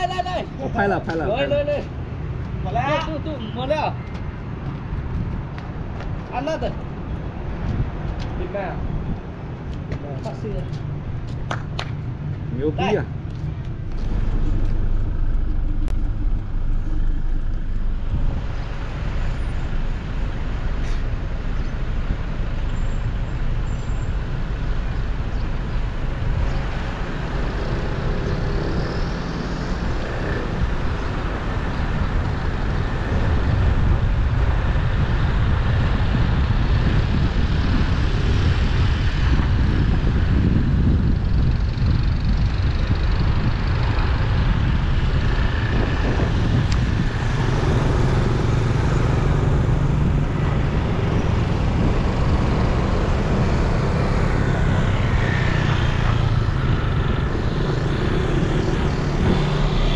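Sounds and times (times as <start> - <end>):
street traffic noise: 0.0 - 59.9
vehicles passing close by: 0.0 - 59.9.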